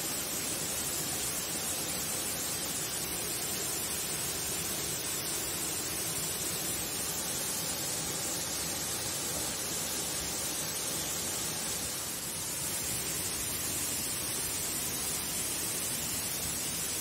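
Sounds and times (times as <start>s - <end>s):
waterfall pouring into pool: 0.0s - 17.0s.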